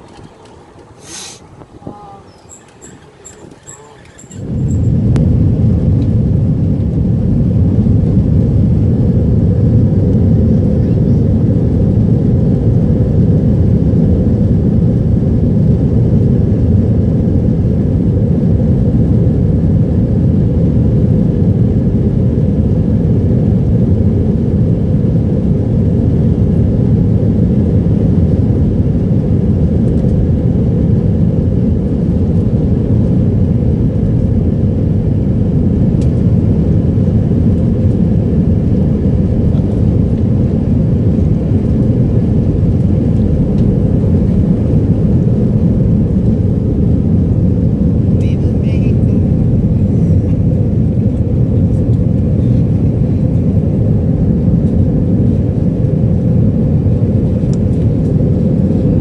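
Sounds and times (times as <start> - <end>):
jet engines rumbling: 0.0 - 59.0
plane rolling on runway: 0.0 - 59.0.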